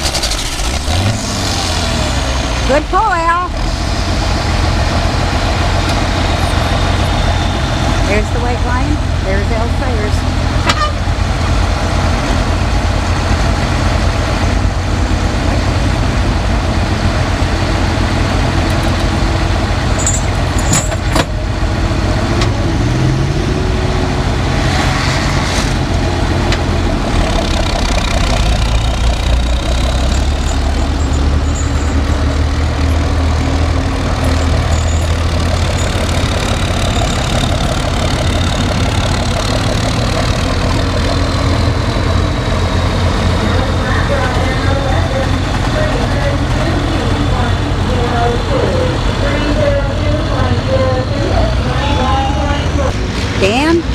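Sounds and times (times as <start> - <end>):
tractor engines rumbling: 0.0 - 53.9.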